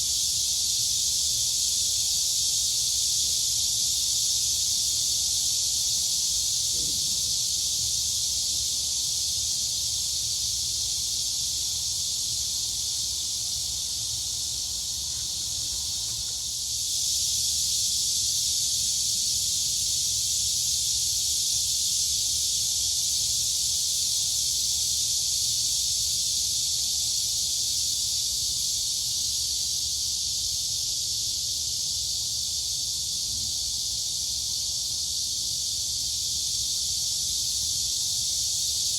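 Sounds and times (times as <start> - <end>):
crickets and cicadas droning: 0.0 - 38.9.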